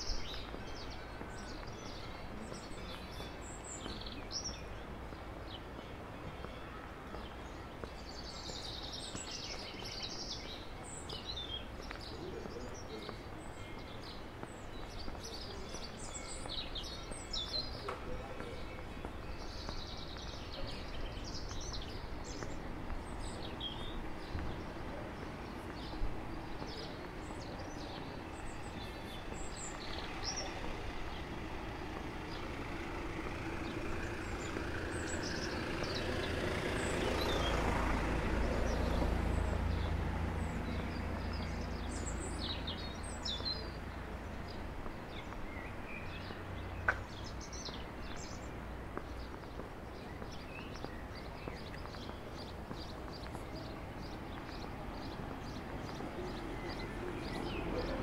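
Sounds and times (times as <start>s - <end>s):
motor vehicle approaching: 0.0s - 58.0s
outdoor background noise: 0.0s - 58.0s
small birds chirping: 0.0s - 58.0s.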